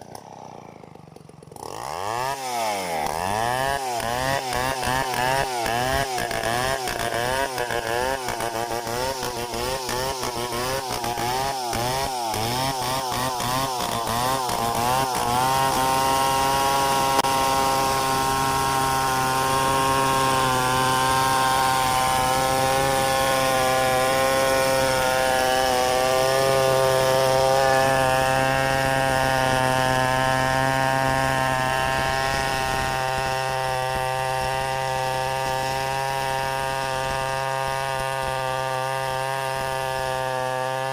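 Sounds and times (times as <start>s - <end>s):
two-stroke chainsaw running: 0.0s - 40.9s.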